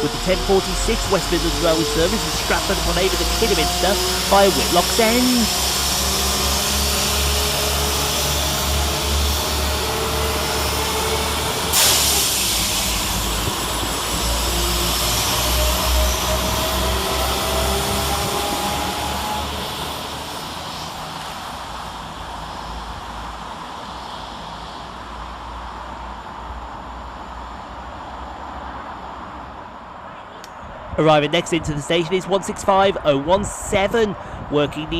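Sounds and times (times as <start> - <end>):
rising engine whine: 0.0 - 33.8
diesel train engines working hard: 0.0 - 34.9.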